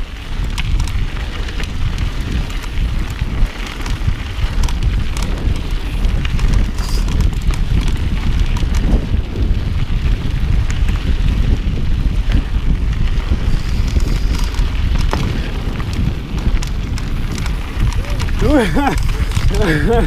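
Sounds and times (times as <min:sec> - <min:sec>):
bike clicks and rattles: 0:00.0 - 0:20.0
tyres rumbling on dirt: 0:00.0 - 0:20.0
wind buffeting microphone: 0:00.0 - 0:20.0.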